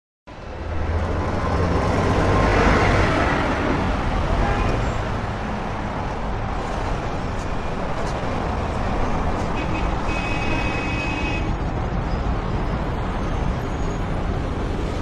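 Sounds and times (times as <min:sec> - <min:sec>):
traffic noise with low rumble: 0:00.3 - 0:15.0.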